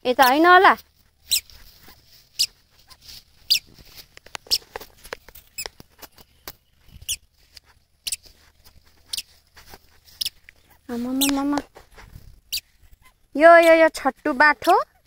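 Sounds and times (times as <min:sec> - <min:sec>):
squeaky sandals squeaking: 0:00.1 - 0:15.0.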